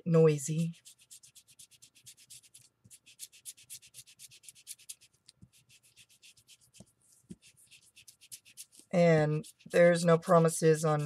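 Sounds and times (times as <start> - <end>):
ink applicator scratching paper: 0.4 - 11.0.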